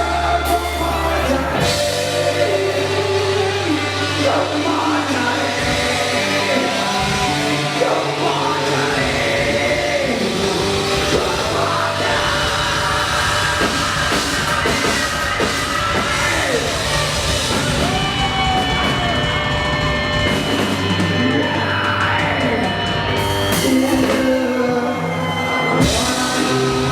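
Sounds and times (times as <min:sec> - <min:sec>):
rock backing track with drums: 0:00.0 - 0:26.9.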